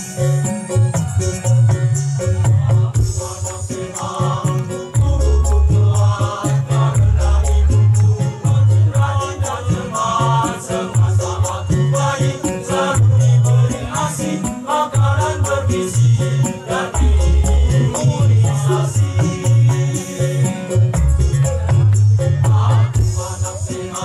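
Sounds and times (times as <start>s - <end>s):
backing track with pulsing bass: 0.0s - 24.0s
men's choir singing: 0.1s - 24.0s.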